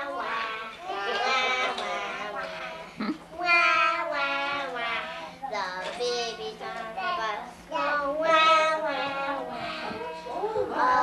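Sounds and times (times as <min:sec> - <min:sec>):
children singing: 0:00.0 - 0:11.0.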